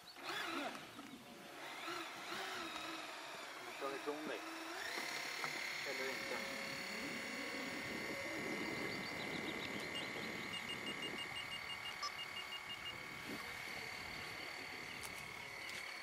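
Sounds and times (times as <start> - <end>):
small motor whining: 0.0 - 16.0.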